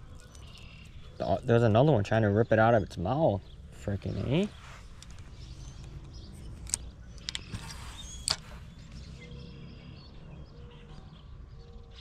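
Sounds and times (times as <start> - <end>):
faint bird chirps: 0.0 - 2.5, 3.2 - 12.0.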